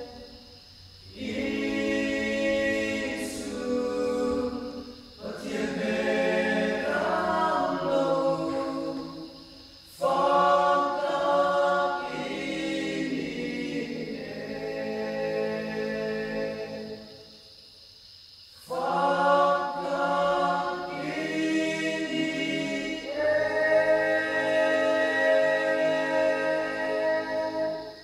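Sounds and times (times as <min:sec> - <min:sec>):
male a cappella group singing: 0:00.0 - 0:00.3, 0:01.0 - 0:17.2, 0:18.6 - 0:28.0.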